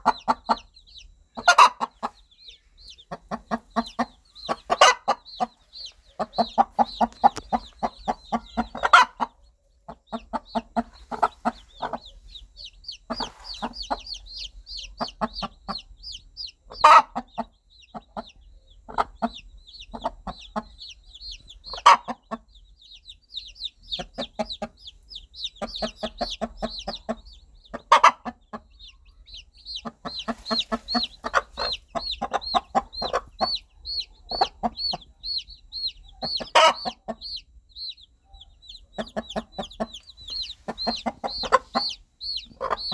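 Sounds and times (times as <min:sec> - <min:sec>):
chicks peeping: 0:00.0 - 0:42.9
hen clucking: 0:00.0 - 0:42.9.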